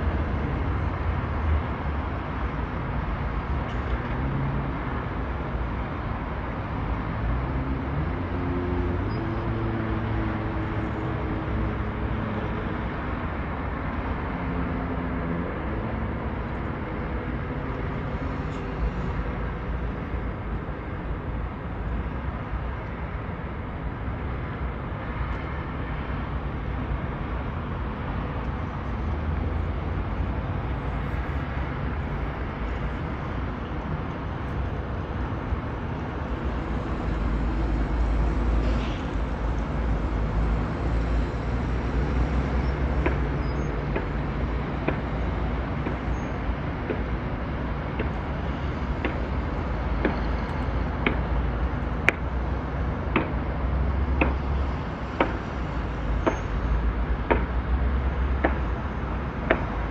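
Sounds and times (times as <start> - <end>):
engine drone: 0.0 - 59.9
road traffic hum: 0.0 - 59.9.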